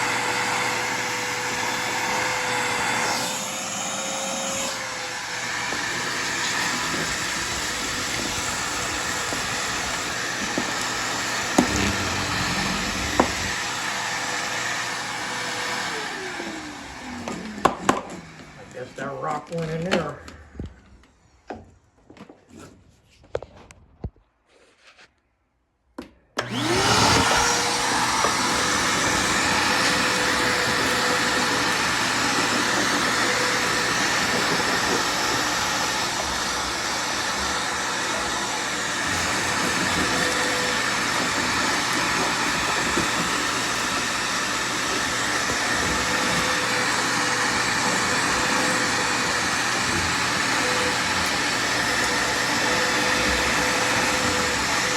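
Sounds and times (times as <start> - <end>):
vacuum cleaner running: 0.0 - 20.8, 26.4 - 54.9.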